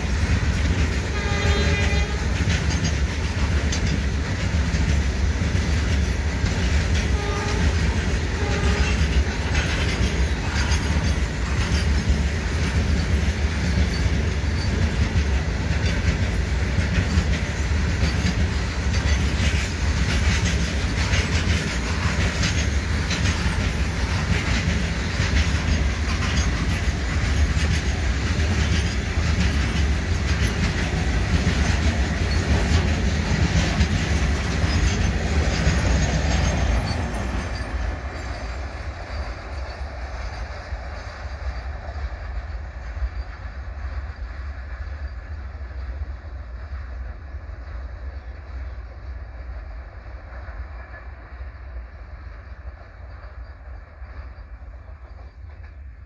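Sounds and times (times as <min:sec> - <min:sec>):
goods train rumbling past: 0:00.0 - 0:56.0.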